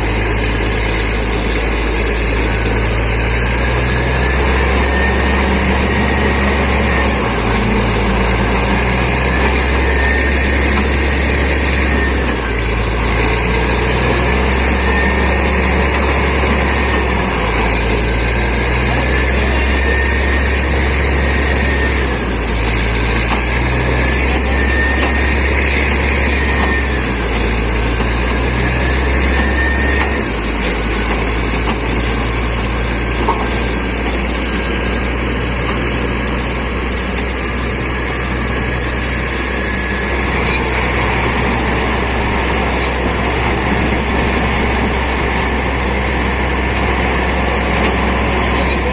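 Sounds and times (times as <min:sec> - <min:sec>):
air compressor running: 0:00.0 - 0:48.9
drilling rig engine running: 0:00.0 - 0:48.9
low pulsing hum: 0:00.0 - 0:48.9.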